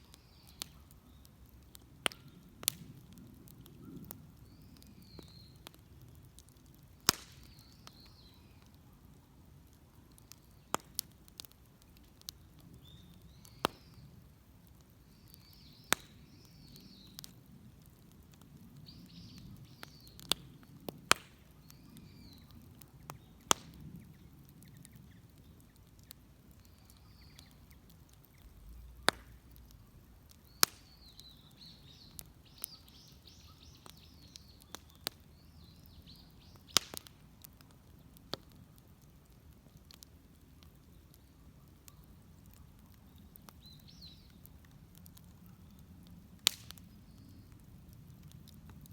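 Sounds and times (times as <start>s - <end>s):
small birds chirping: 0.0s - 48.6s
bonfire crackling and popping: 0.0s - 48.9s.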